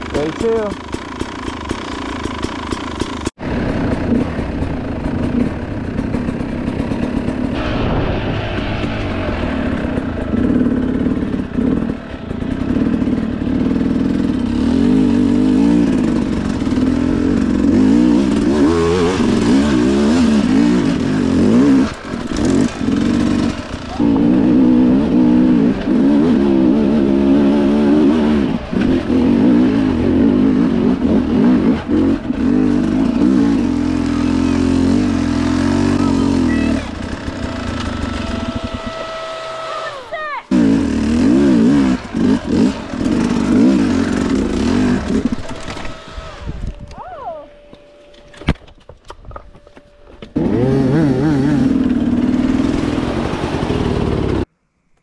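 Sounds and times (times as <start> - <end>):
dirt bike engine revving: 0.0 - 47.7, 50.3 - 54.5.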